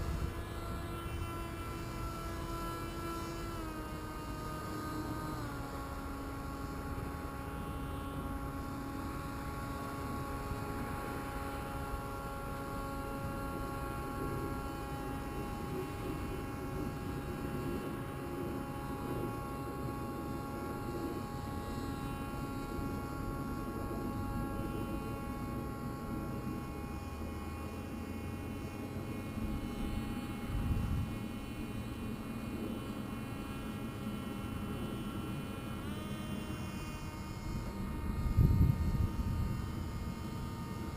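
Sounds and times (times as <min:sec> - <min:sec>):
aircraft motor droning hum: 0:00.0 - 0:40.9.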